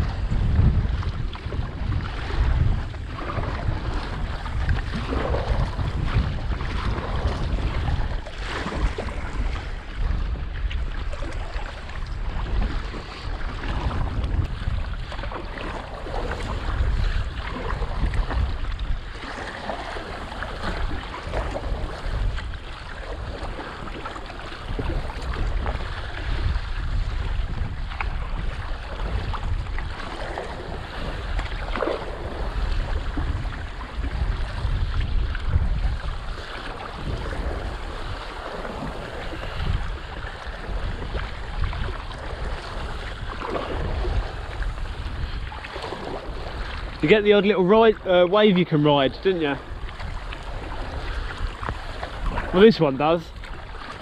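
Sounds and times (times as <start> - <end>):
paddle blades splashing: 0.0 - 54.0
water slapping against kayak hull: 0.0 - 54.0
wind buffeting microphone: 0.0 - 54.0.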